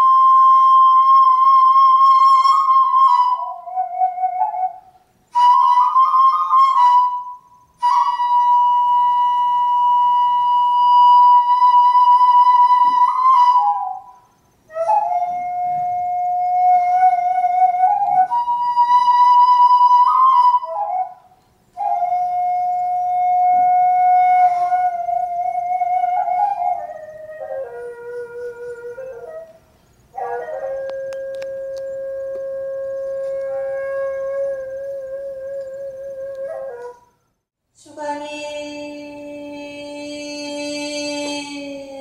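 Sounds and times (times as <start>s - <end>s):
bamboo flute playing slow melody: 0.0s - 37.2s.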